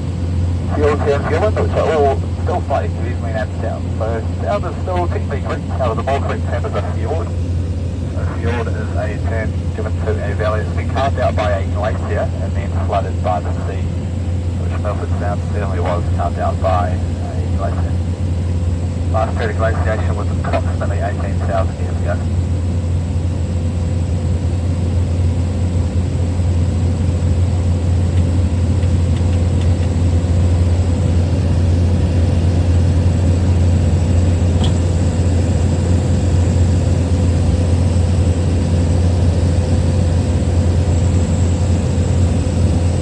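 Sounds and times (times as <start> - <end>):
small plane engine droning: 0.0 - 43.0.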